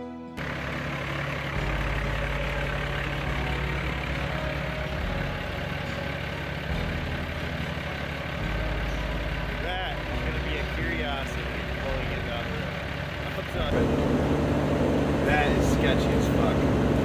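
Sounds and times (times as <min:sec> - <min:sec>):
diesel engine idling: 0:00.4 - 0:17.0.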